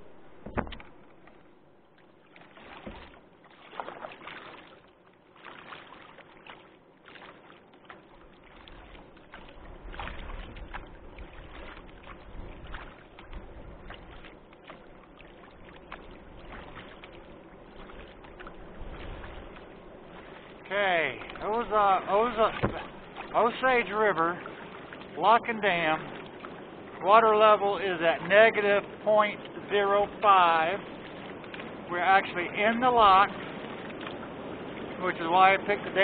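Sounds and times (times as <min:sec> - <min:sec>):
paddle splashes and drips: 0:00.2 - 0:36.0.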